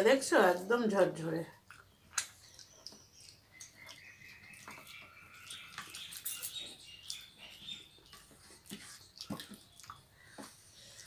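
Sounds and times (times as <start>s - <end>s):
chewing: 1.5s - 11.0s.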